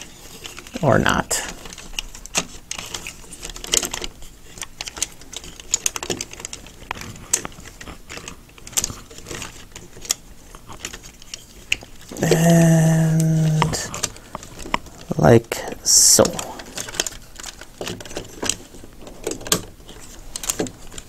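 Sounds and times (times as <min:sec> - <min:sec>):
plastic toy parts clicking: 0:01.5 - 0:15.1, 0:15.7 - 0:21.0.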